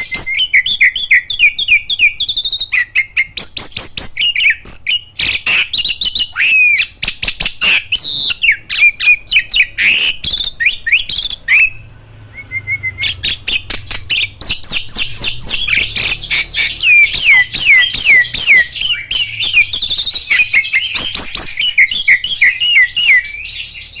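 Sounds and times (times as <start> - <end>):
starlings chattering: 0.0 - 24.0.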